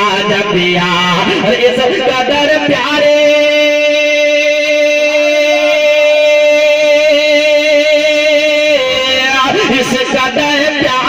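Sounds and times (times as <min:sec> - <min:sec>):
man singing a long high note: 0:00.0 - 0:11.0.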